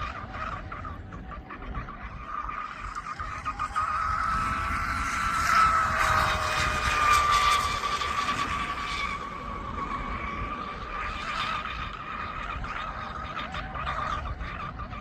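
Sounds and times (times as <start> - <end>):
rc boat motor whine: 0.0 - 15.0.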